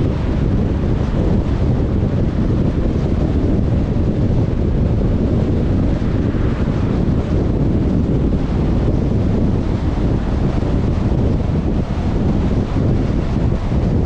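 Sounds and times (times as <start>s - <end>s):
car road noise: 0.0s - 14.0s
wind buffeting microphone: 0.0s - 14.0s.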